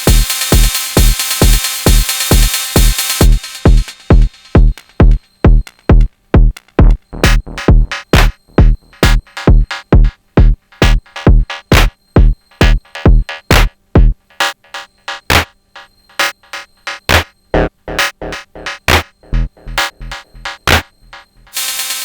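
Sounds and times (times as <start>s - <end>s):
drum machine kick: 0.0s - 15.6s, 16.2s - 21.6s
sharp percussion hits: 0.1s - 6.1s, 6.8s - 14.1s, 17.1s - 21.6s.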